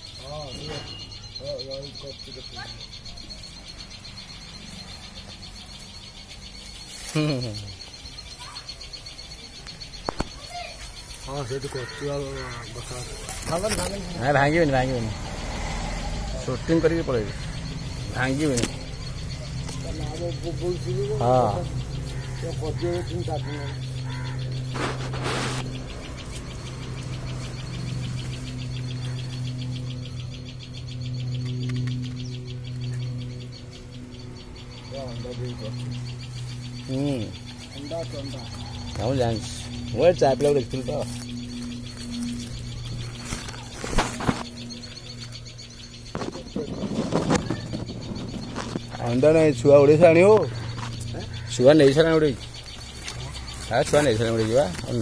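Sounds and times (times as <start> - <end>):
insects chirring: 0.0 - 55.0
steady low hum: 0.0 - 55.0.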